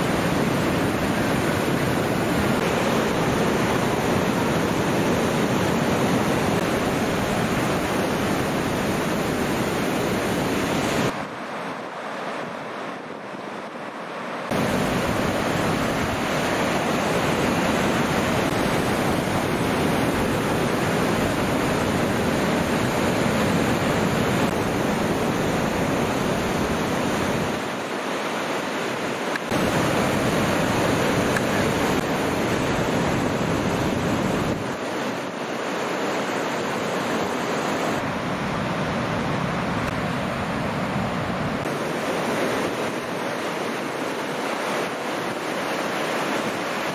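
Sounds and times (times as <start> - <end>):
ocean surf breaking: 0.0 - 46.9.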